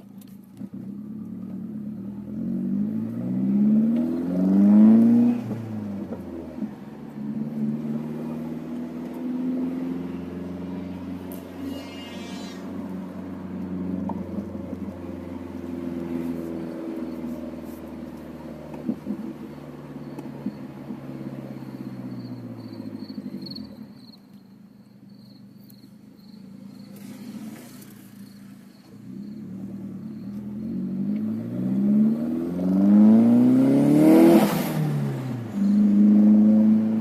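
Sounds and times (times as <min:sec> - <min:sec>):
car engine running through exhaust: 0:00.0 - 0:37.0.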